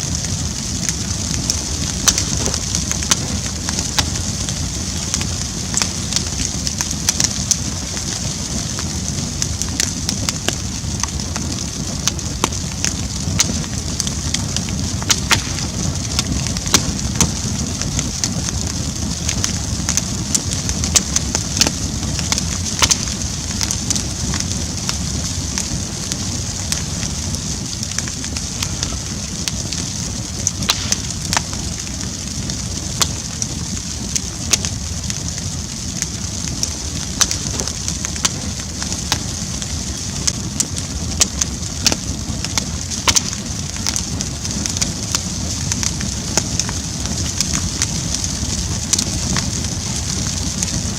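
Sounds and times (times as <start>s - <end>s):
burning wood crackling: 0.0s - 50.9s
low rumble of flames: 0.0s - 50.9s.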